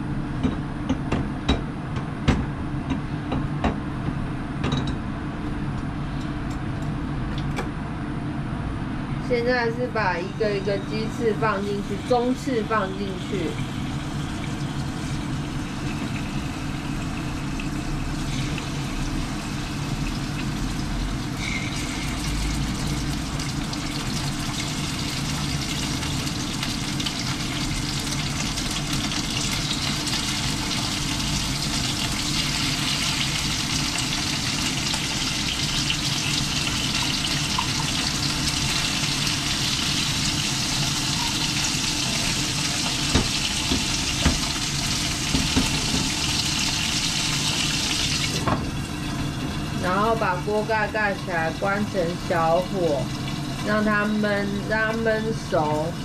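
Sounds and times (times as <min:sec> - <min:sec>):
chicken wings sizzling in oil: 0:10.0 - 0:56.0.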